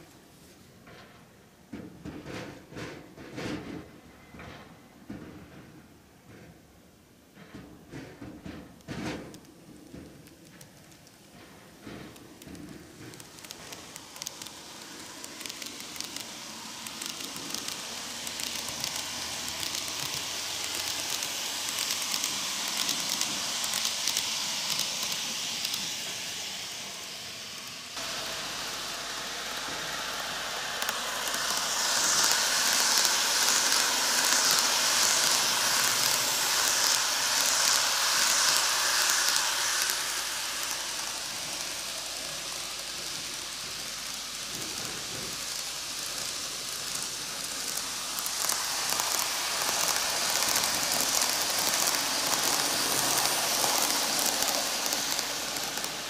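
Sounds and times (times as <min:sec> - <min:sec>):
model trains rattling on track: 0:01.8 - 0:56.0.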